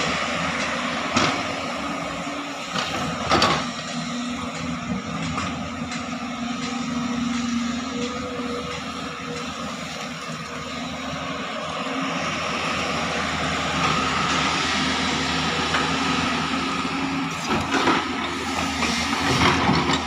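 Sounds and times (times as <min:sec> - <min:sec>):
excavator diesel engine: 0:00.0 - 0:20.0
hydraulic whine: 0:00.0 - 0:20.0.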